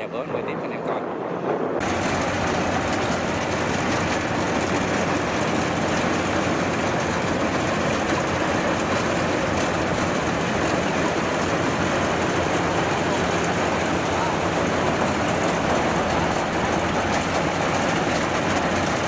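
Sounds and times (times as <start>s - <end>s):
combine harvester running: 1.8s - 19.0s.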